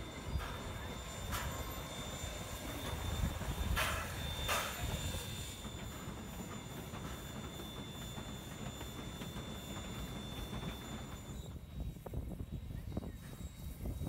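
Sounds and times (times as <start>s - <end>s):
steam locomotive wheels rumbling: 0.0s - 14.0s.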